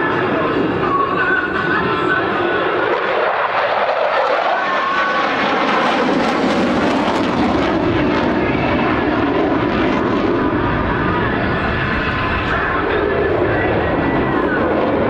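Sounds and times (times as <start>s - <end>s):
fighter jet flying overhead: 0.0s - 15.0s.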